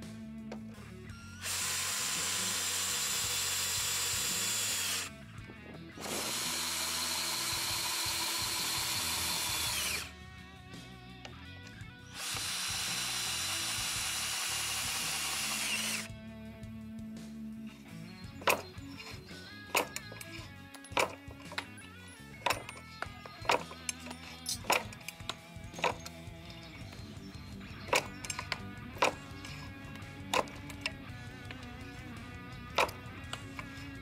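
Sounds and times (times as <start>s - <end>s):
cordless drill whining: 1.1s - 5.2s, 5.9s - 10.1s, 12.0s - 16.2s, 18.3s - 34.0s.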